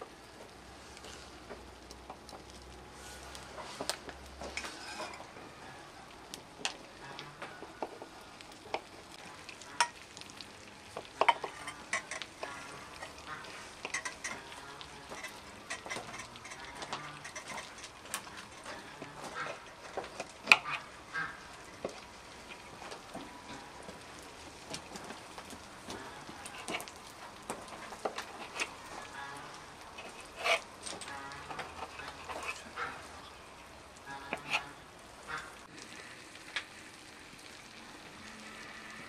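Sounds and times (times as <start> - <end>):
syrup sizzling and popping: 0.0 - 39.0.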